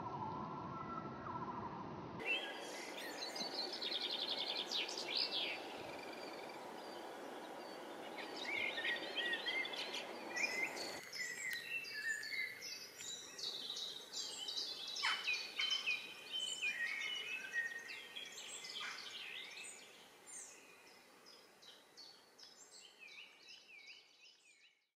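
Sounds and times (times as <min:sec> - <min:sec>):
background hiss: 0:02.2 - 0:24.2
songbirds chirping and singing: 0:02.2 - 0:24.8.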